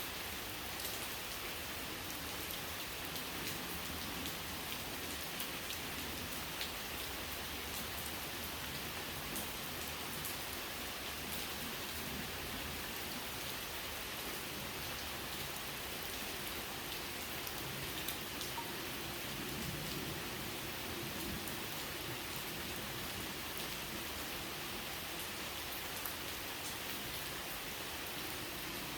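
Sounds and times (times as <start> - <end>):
steady rainfall: 0.0 - 28.9.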